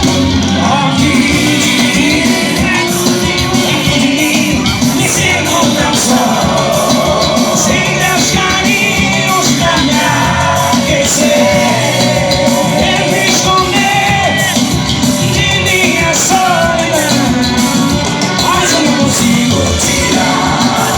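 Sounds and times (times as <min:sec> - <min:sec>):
live band music: 0:00.0 - 0:20.9.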